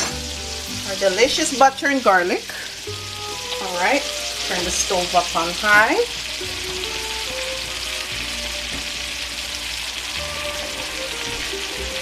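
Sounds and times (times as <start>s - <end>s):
butter and garlic sizzling: 0.0s - 12.0s.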